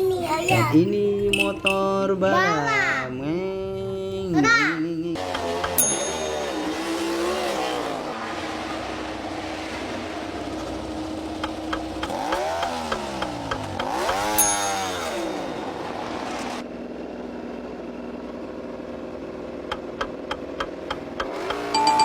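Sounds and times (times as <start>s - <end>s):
motorbike revving: 0.0s - 22.0s.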